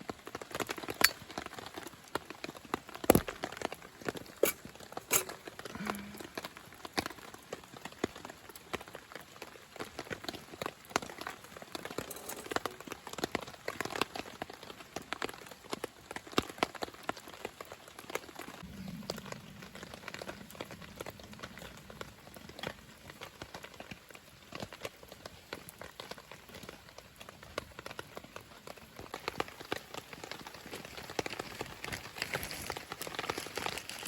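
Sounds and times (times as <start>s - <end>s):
campfire crackling: 0.0s - 34.0s
meat sizzling over fire: 0.0s - 34.0s.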